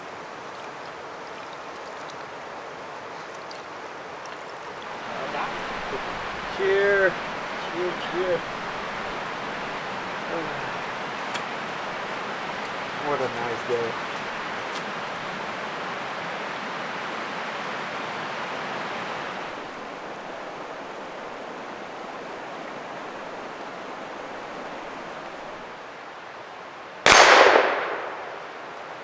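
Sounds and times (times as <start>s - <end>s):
creek rushing: 0.0s - 29.0s.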